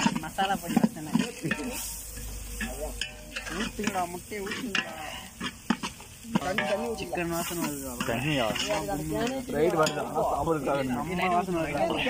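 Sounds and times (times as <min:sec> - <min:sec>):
ladle stirring in metal pot: 0:00.0 - 0:12.0
onions sizzling in hot oil: 0:00.0 - 0:12.0.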